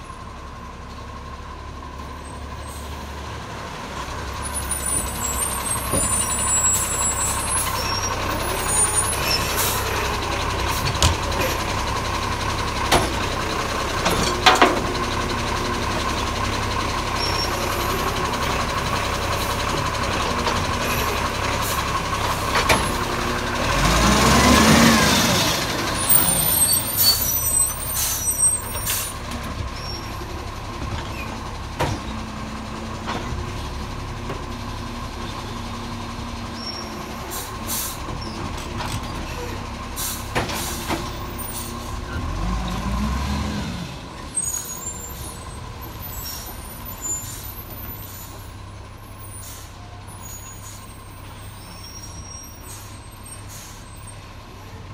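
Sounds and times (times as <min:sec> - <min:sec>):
garbage truck engine running: 0:00.0 - 0:54.9.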